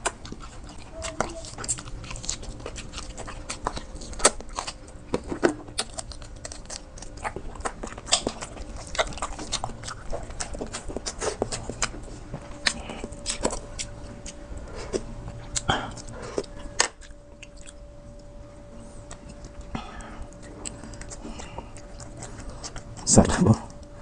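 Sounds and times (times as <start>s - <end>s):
person chewing wet smacks: 0.0s - 23.9s
faint steady hum: 0.0s - 24.0s.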